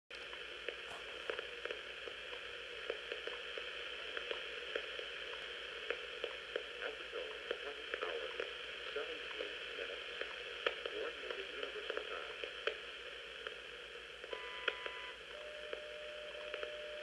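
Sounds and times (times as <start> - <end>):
shortwave static hiss: 0.1 - 17.0
static crackles and pops: 0.1 - 17.0.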